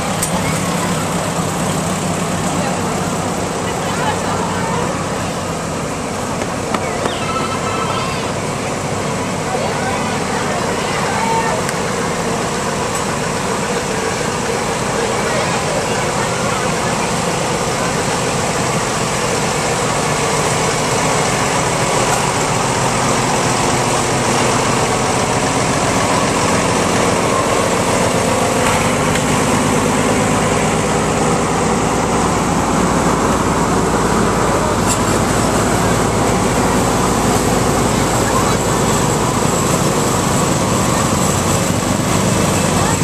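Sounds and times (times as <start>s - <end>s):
diesel tractor engine passing: 0.0s - 43.0s
tractor engines running: 0.0s - 43.0s.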